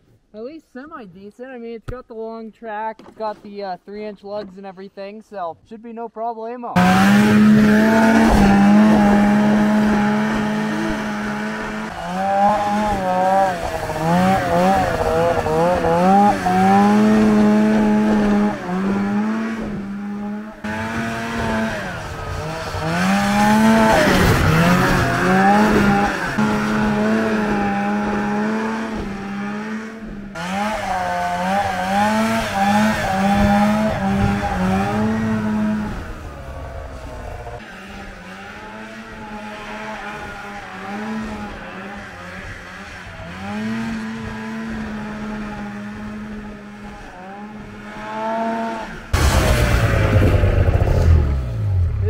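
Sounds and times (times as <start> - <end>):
snowmobile engine revving: 6.8 - 52.0.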